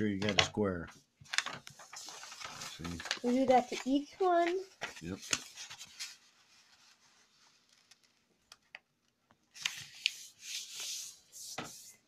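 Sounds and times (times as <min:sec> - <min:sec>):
paper rustling and crinkling: 0:01.2 - 0:08.8, 0:09.5 - 0:12.0.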